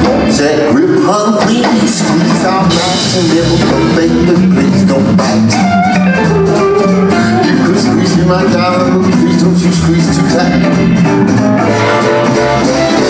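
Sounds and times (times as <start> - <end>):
drums: 0.0 - 13.0
electric guitar: 0.0 - 13.0.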